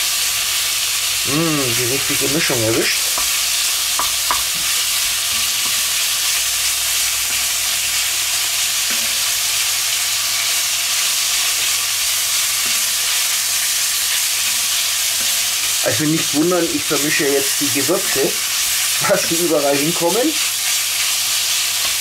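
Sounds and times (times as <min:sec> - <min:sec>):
meat sizzling in a pot: 0:00.0 - 0:22.0.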